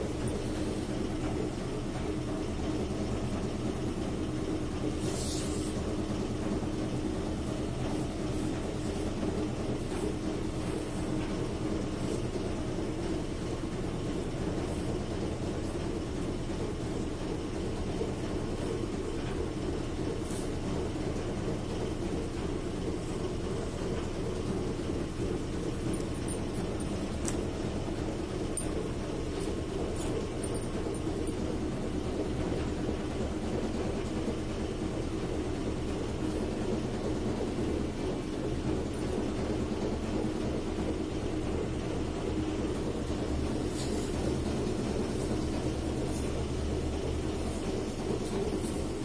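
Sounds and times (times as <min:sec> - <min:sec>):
low mechanical hum and rumble: 0:00.0 - 0:49.0.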